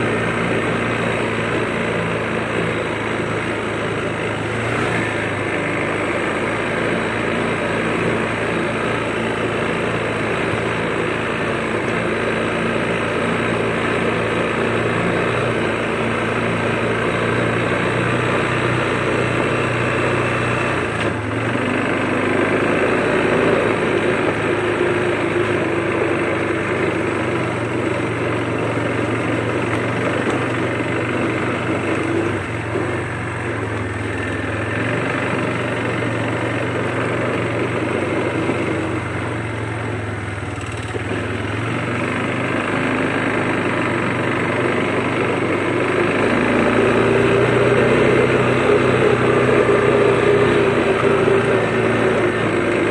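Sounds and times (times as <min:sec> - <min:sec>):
quad bike engine running: 0:00.0 - 0:52.9.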